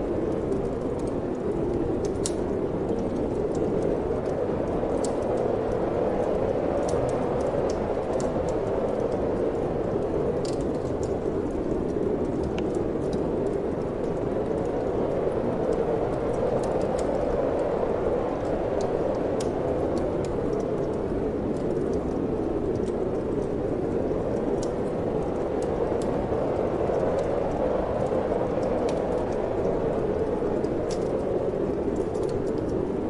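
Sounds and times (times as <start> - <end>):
steady wind rushing: 0.0 - 33.0
wood fire crackling: 0.0 - 33.0.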